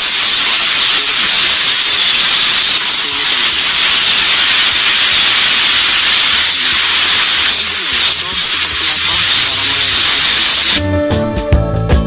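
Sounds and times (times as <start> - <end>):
heavy rain hiss: 0.0 - 10.8.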